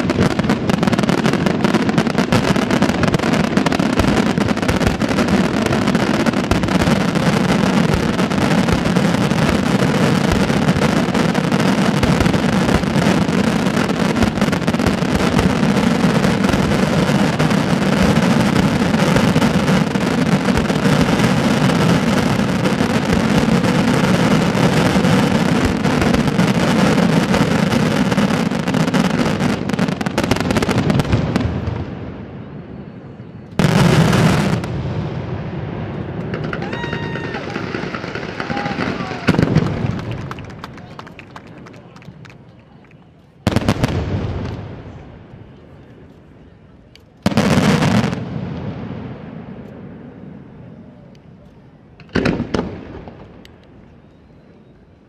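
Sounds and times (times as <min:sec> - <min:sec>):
fireworks crackle: 0:00.0 - 0:32.2, 0:33.5 - 0:45.4, 0:46.9 - 0:50.0, 0:51.2 - 0:55.0
fireworks bangs rumbling: 0:00.0 - 0:32.3, 0:33.6 - 0:42.4, 0:43.4 - 0:45.5, 0:51.9 - 0:53.6.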